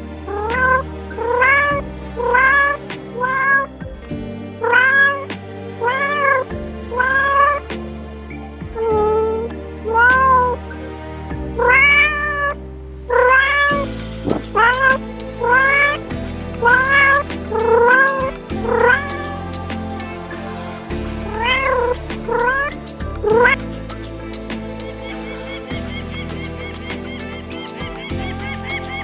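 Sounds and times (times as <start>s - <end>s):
soft background music: 0.0s - 29.0s.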